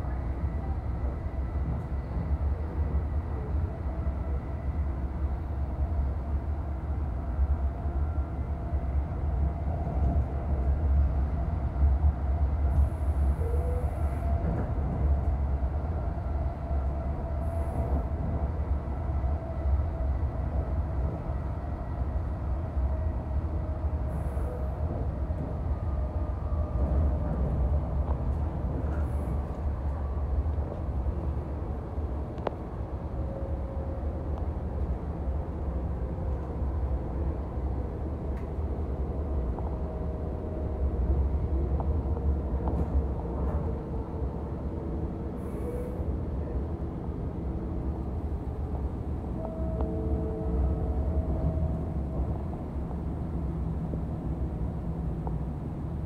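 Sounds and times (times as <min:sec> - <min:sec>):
train coach rumbling on rails: 0:00.0 - 0:56.0.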